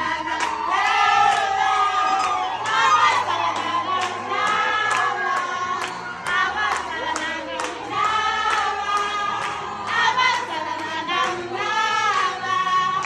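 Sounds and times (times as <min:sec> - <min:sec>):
group of voices singing: 0:00.0 - 0:13.0
rhythmic hand claps: 0:00.0 - 0:13.0.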